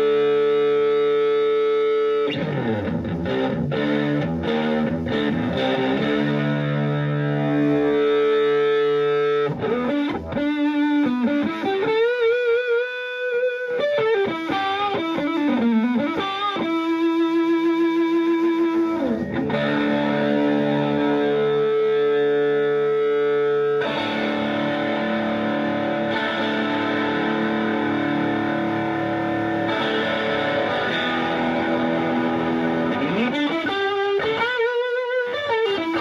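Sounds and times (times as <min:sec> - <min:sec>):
overdriven electric guitar: 0:00.0 - 0:36.0.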